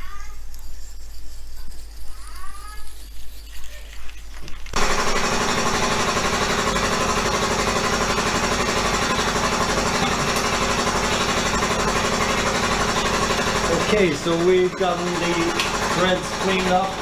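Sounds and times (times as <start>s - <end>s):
small motor tool chattering: 2.4s - 17.0s.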